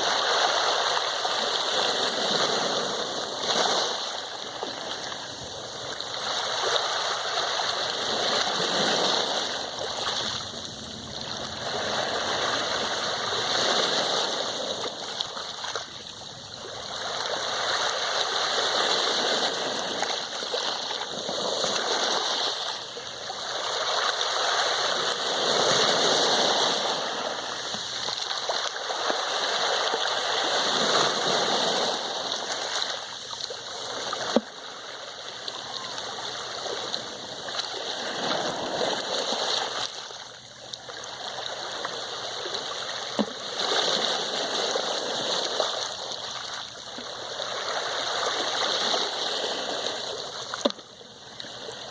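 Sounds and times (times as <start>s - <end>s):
sea waves washing in: 0.0s - 51.9s.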